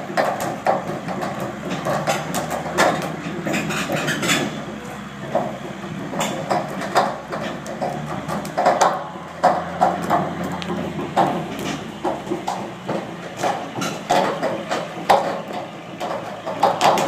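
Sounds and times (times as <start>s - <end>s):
forklift engine running: 0.0s - 17.0s
steel cradle knocks and clanks: 0.0s - 17.0s.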